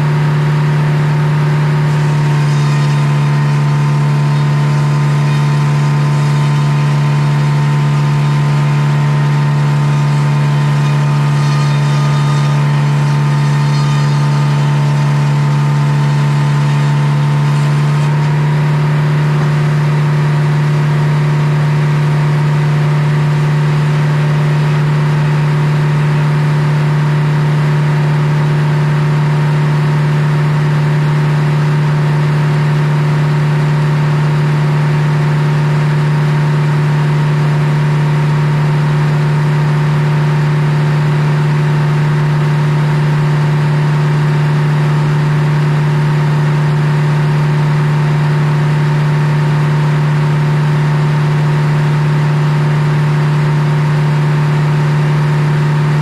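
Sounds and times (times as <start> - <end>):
sawmill machine hum: 0.0 - 56.0.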